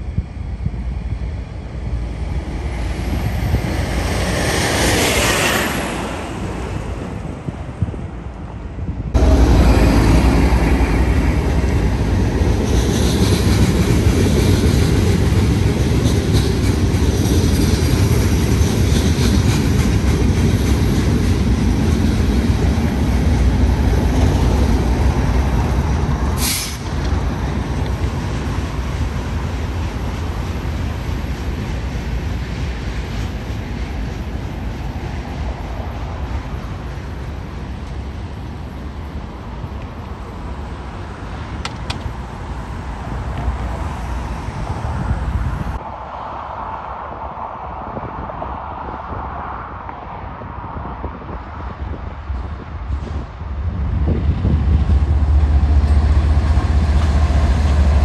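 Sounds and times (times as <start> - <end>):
train wheels rumbling on rail: 0.0 - 45.9, 50.8 - 58.0
wind noise on microphone: 0.0 - 58.0.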